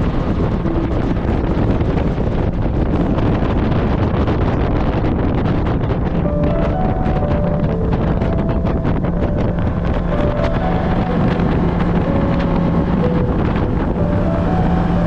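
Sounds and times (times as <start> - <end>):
motorboat engine hum: 0.0 - 15.0
wind buffeting microphone: 0.0 - 15.0.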